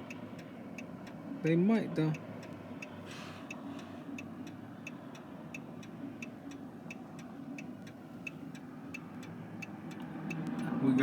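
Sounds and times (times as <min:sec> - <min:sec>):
car turn signal clicking: 0:00.0 - 0:11.0
low rumble of car on road: 0:00.0 - 0:11.0.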